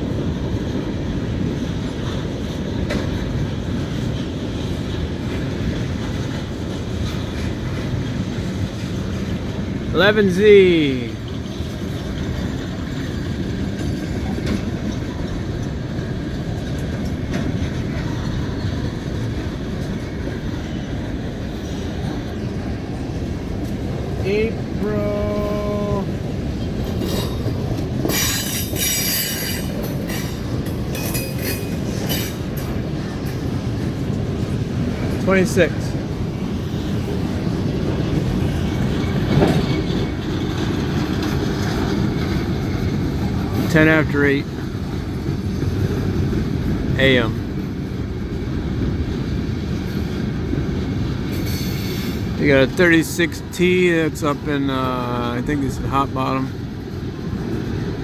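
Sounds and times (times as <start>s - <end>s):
sharp clicks of train wheels: 0.0s - 10.3s, 11.0s - 24.9s, 25.9s - 58.0s
train wheels rumbling on rail: 0.0s - 58.0s.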